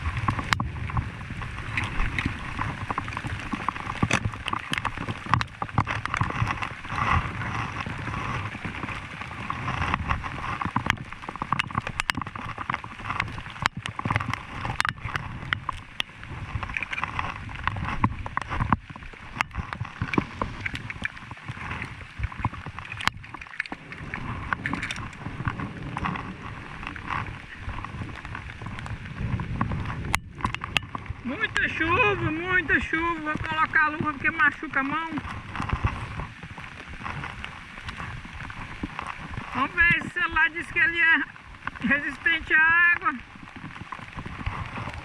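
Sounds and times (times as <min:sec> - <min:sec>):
heavy rain rushing: 0:00.0 - 0:45.0
raindrops tapping near microphone: 0:00.0 - 0:45.0.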